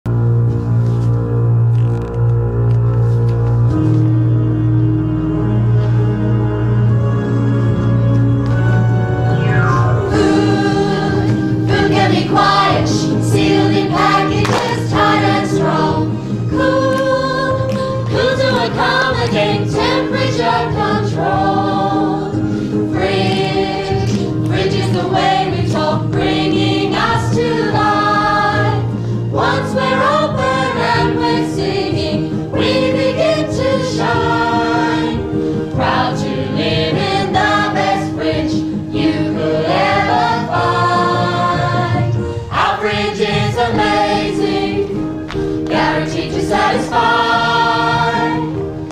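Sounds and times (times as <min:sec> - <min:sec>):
instrumental accompaniment: 0:00.1 - 0:48.9
chorus singing: 0:08.8 - 0:48.9.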